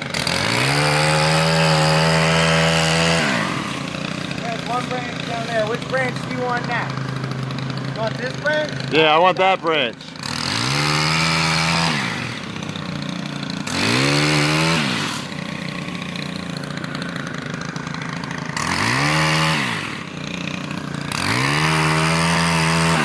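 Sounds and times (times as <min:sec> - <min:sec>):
pole saw engine idling and revving: 0:00.0 - 0:23.0.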